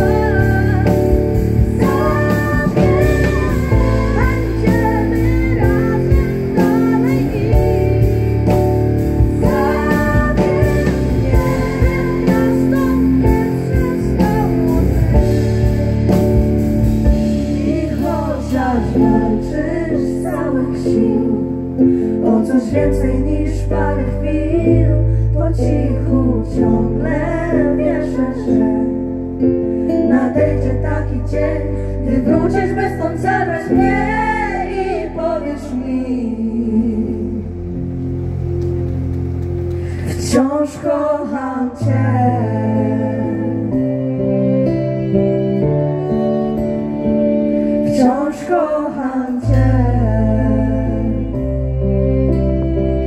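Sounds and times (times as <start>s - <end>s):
people singing: 0.0s - 29.0s, 30.0s - 37.5s, 40.1s - 44.8s, 47.8s - 51.4s
bass: 0.0s - 53.0s
guitar: 0.0s - 53.0s.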